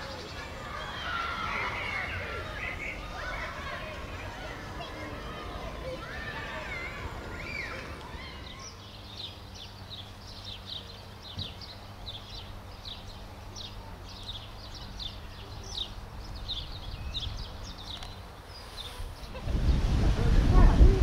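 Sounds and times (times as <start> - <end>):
small birds chirping: 0.0 - 20.5.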